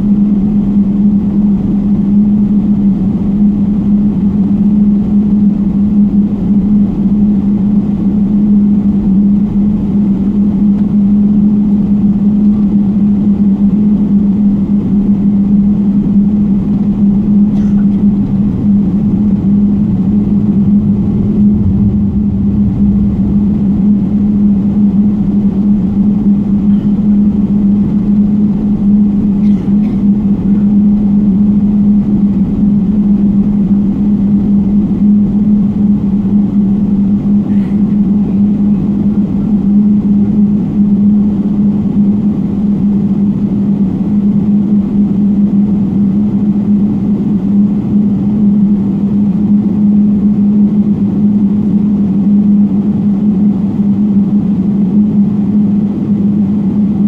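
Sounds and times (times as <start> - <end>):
aircraft engines droning: 0.0 - 57.0
constant low hum: 0.0 - 57.0.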